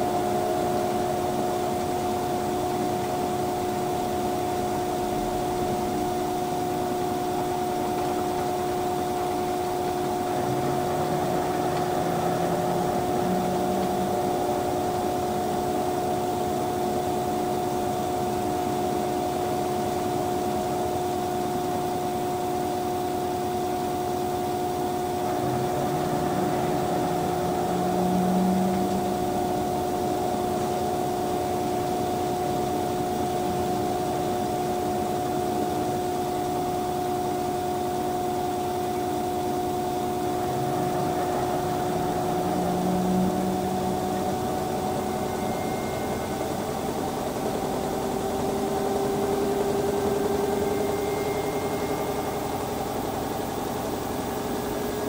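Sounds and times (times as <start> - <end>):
drum motor whining: 0.0 - 55.0
washing machine hum: 0.0 - 55.0.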